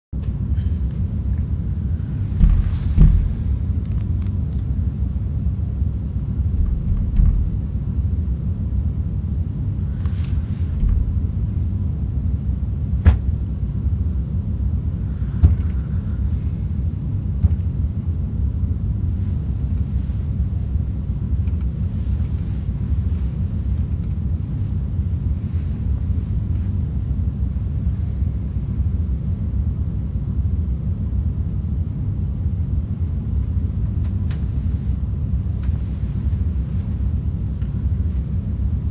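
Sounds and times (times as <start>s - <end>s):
low rumble: 0.2s - 38.9s.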